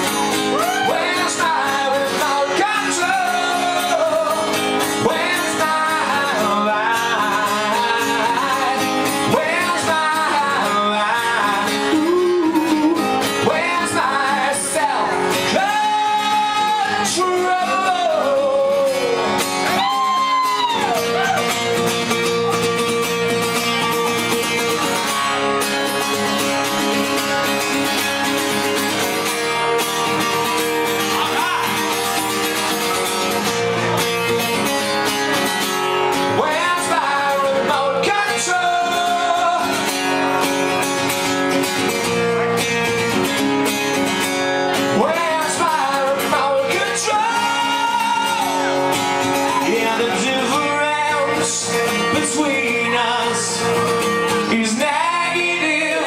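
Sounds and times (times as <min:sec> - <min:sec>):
bending lead guitar line: 0:00.0 - 0:56.0
rock band playing: 0:00.0 - 0:56.0.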